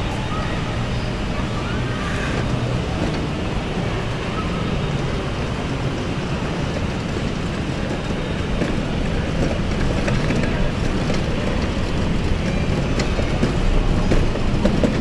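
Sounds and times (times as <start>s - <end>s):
faint distant voices: 0.0s - 14.8s
rushing hall ambience: 0.0s - 15.0s.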